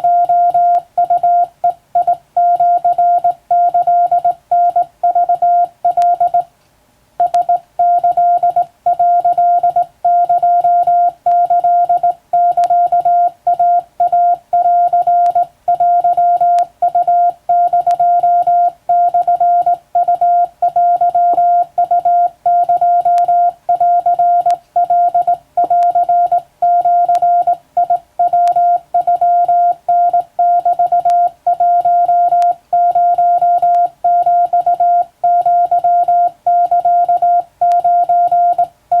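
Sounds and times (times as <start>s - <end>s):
morse code beeps: 0.0s - 6.5s, 7.2s - 39.0s.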